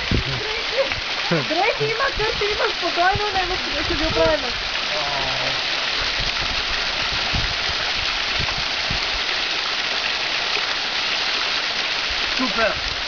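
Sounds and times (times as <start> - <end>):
waterfall splashing onto rocks: 0.0 - 13.0.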